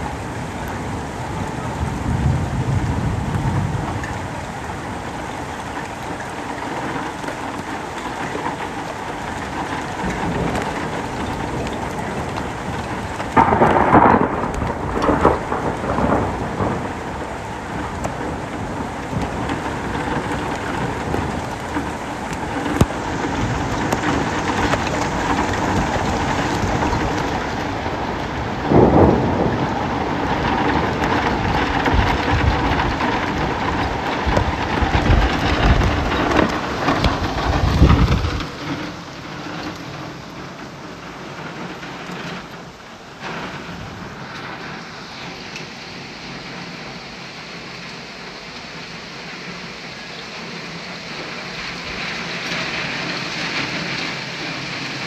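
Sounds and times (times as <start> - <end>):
thunder cracking and rumbling: 0.0 - 47.9
heavy rain on street: 0.0 - 55.0.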